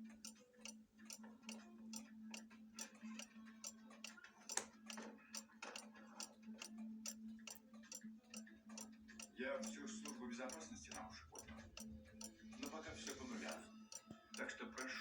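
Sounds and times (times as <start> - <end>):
cuckoo clock ticking: 0.0 - 15.0.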